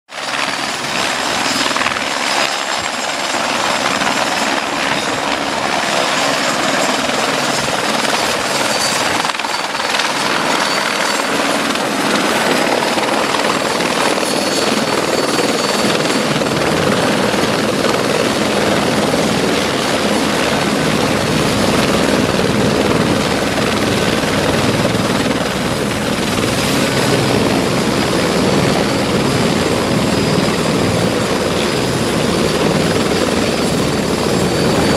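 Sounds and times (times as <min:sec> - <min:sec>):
helicopter rotor and turbine: 0:00.1 - 0:34.9.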